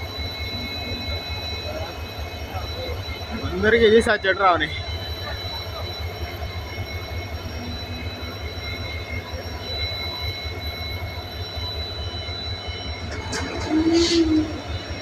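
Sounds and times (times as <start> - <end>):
diesel machinery rumbling: 0.0 - 15.0
high steady whine: 0.0 - 15.0.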